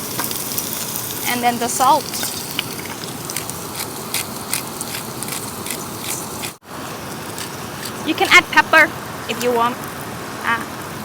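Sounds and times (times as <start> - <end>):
pork sizzling on a grill: 0.0 - 11.0.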